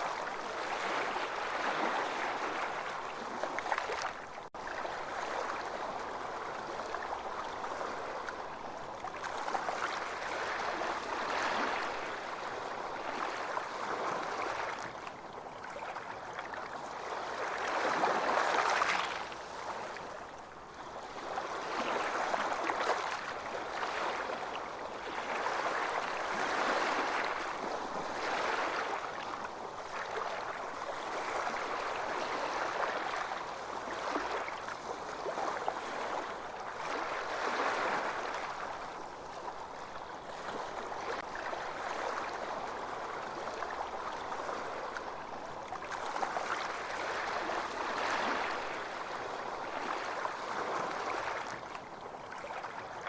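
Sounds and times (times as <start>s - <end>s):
small waves washing onto beach: 0.0s - 53.0s.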